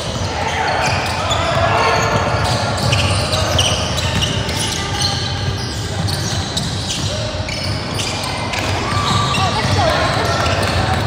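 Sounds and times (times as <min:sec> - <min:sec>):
shoes squeaking: 0:00.0 - 0:11.0
spectators chattering: 0:00.0 - 0:11.0.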